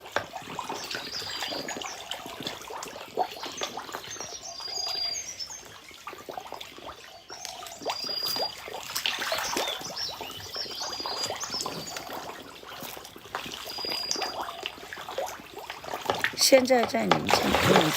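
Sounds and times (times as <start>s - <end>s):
water splashing and trickling: 0.0s - 17.9s.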